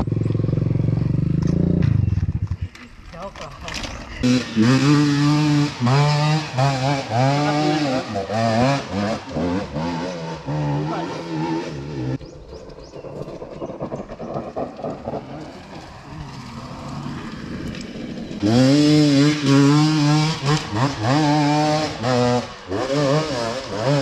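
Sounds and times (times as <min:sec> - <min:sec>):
dirt bike engine revving: 0:00.0 - 0:02.4, 0:04.1 - 0:12.2, 0:14.9 - 0:24.0.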